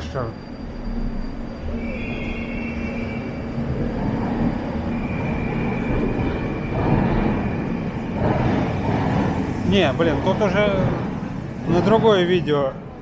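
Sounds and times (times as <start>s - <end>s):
metro train rail noise: 0.0s - 13.0s.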